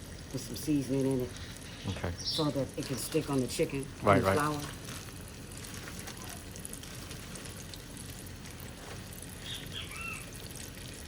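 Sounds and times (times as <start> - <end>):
chicken sizzling in deep fryer oil: 0.0 - 11.0.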